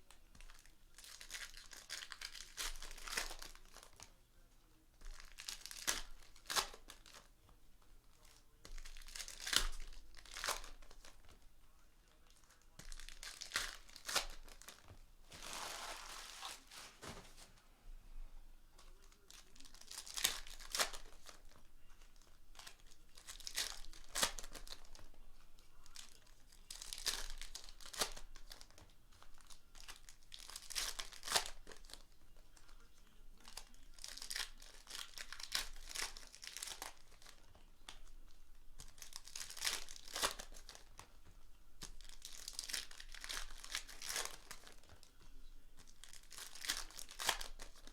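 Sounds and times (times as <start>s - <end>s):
plastic wrapping crinkling and tearing: 0.0s - 4.1s, 5.0s - 7.3s, 8.1s - 11.4s, 12.0s - 17.5s, 18.8s - 41.2s, 41.8s - 47.9s.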